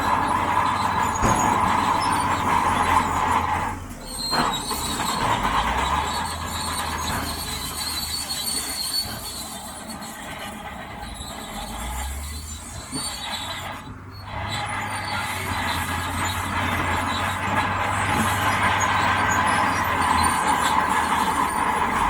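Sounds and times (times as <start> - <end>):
bulldozer tracks squealing: 0.0 - 22.0
diesel engine running: 0.0 - 22.0.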